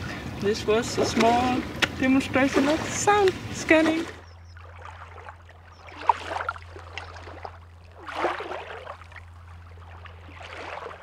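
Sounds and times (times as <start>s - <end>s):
low steady hum: 0.0s - 11.0s
sea water lapping and splashing: 0.0s - 11.0s.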